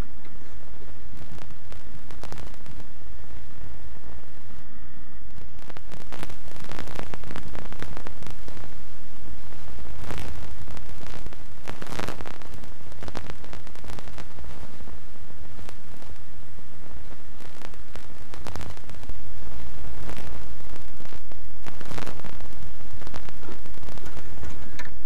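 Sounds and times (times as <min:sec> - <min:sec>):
crackle bursts: 0:00.0 - 0:25.0
low buzzing hum: 0:00.0 - 0:25.0
static hiss: 0:00.0 - 0:25.0.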